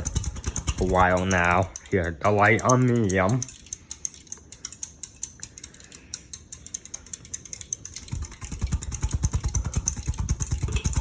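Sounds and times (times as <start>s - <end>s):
ceiling fan ticking: 0.0s - 11.0s.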